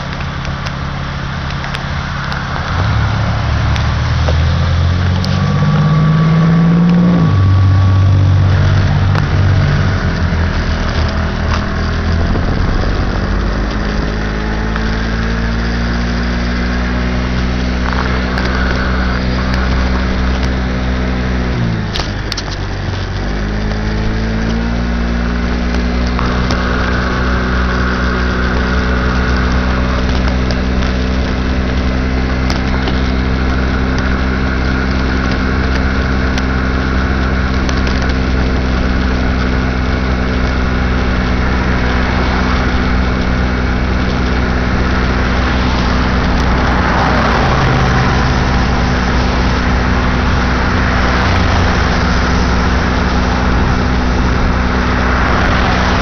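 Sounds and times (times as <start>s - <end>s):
moped engine running: 0.0s - 56.0s
road and wind noise hiss: 0.0s - 56.0s.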